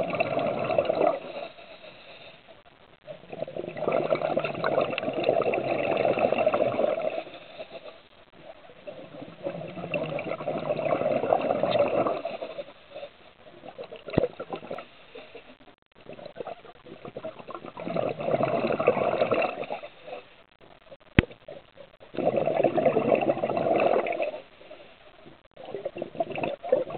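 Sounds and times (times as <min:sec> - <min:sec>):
underwater regulator bubbling: 0:00.0 - 0:01.6, 0:03.1 - 0:12.7, 0:13.5 - 0:20.3, 0:20.9 - 0:26.9.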